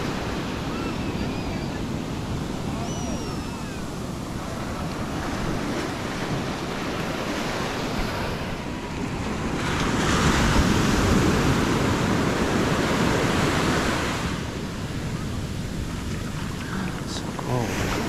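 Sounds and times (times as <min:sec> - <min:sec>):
surf breaking on sand: 0:00.0 - 0:18.0
wind buffeting microphone: 0:00.0 - 0:18.0.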